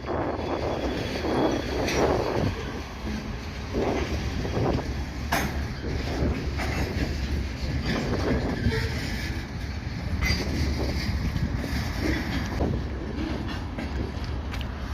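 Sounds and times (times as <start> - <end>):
freight train rumbling: 0.0 - 14.9
train cars clanking: 0.0 - 14.9.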